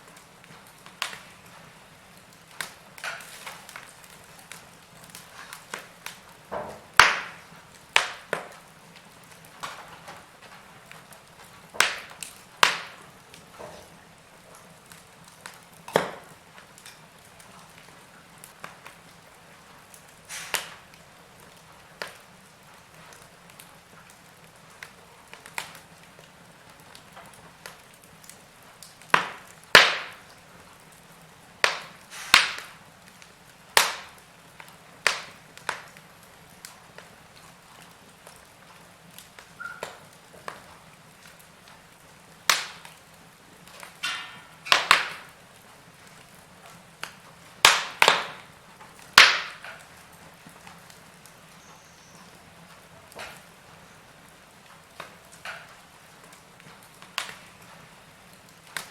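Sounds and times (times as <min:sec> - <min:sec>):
faint steady hiss: 0:00.0 - 0:58.9
wood fire crackling and popping: 0:00.0 - 0:58.9.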